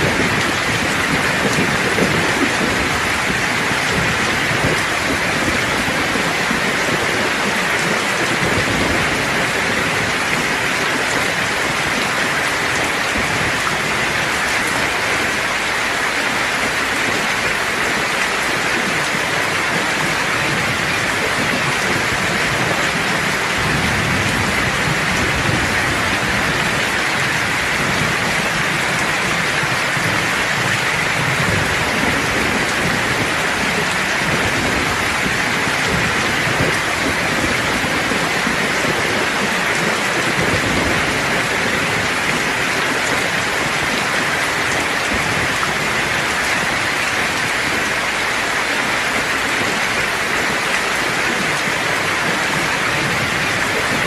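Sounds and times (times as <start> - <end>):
distant thunder rumble: 0.0 - 54.0
heavy rain hissing: 0.0 - 54.0.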